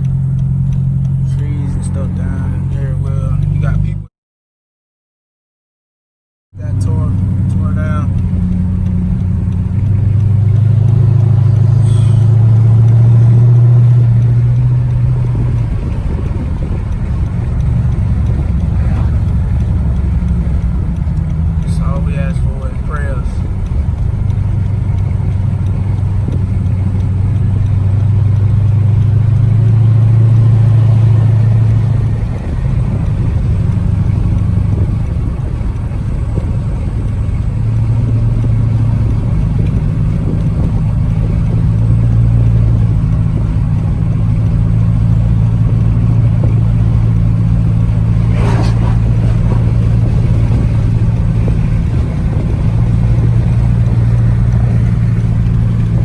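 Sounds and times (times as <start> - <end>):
car engine and road drone: 0.0 - 4.1, 6.6 - 56.0.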